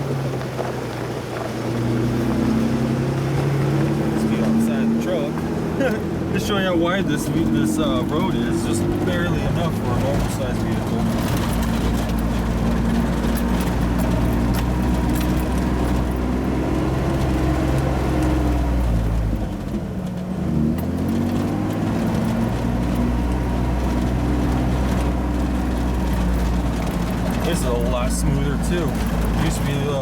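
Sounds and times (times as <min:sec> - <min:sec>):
car engine running: 0:00.0 - 0:30.0
knocks and rattles from rough road: 0:00.0 - 0:30.0.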